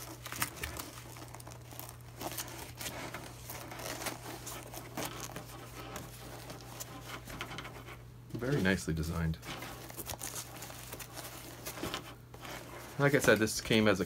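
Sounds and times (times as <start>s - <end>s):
velcro rasps: 0.0s - 8.0s, 9.4s - 13.4s
fabric rustling and scratching: 0.0s - 14.0s.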